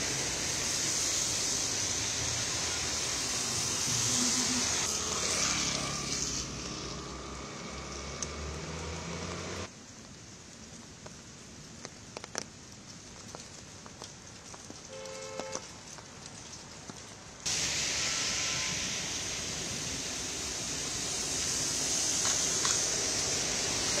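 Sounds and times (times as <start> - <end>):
heavy downpour: 0.0 - 24.0
rain on wet road: 0.0 - 24.0.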